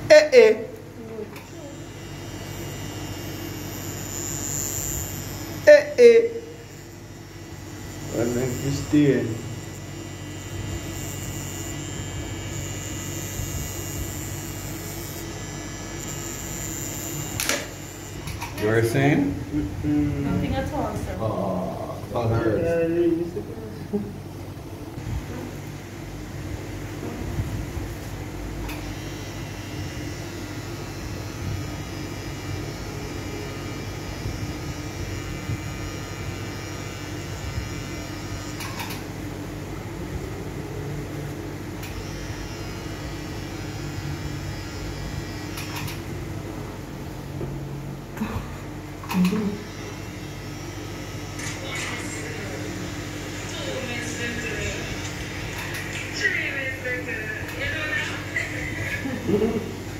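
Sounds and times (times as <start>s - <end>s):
tattoo machine humming: 0.0s - 59.9s.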